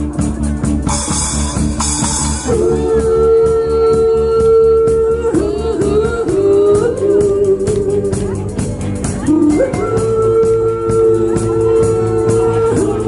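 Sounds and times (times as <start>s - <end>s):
live band music: 0.0s - 13.0s
person singing: 0.9s - 13.0s.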